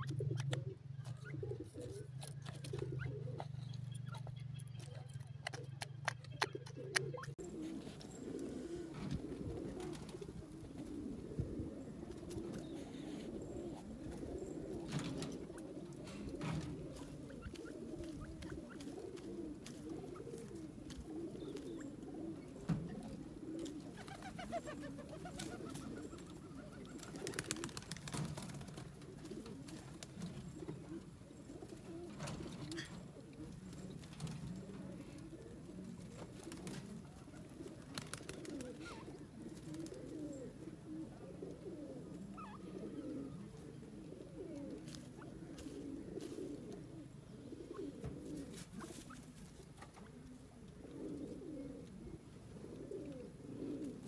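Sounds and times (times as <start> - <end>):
birds cooing: 0.0 - 54.0.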